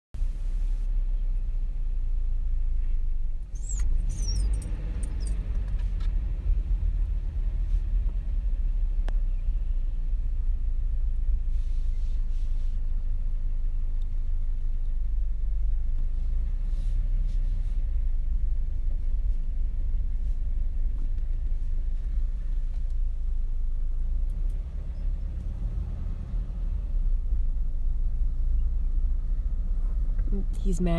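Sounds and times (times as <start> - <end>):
car engine and tyre rumble: 0.2 - 30.9.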